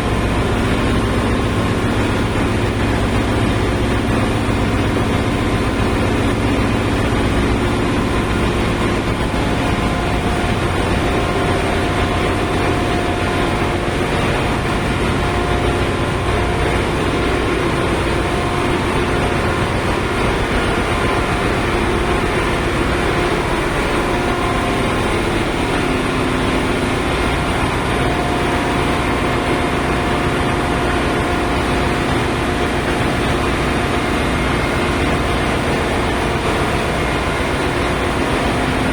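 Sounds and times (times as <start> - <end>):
engine room machinery drone: 0.0 - 38.9.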